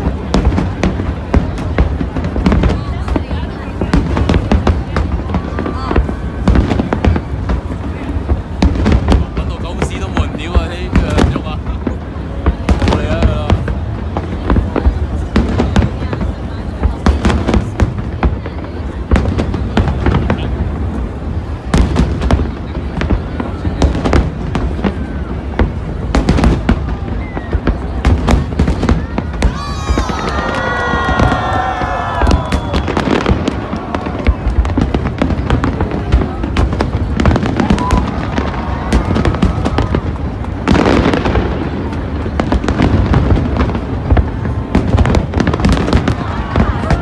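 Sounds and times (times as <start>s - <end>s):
fireworks sharp bangs: 0.0s - 47.0s
low rumble of explosions: 0.0s - 47.0s.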